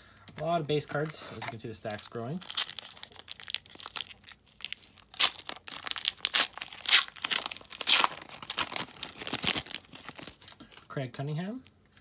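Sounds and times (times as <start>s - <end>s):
foil wrapper crinkling: 0.0s - 10.9s
foil ripping: 0.4s - 10.6s.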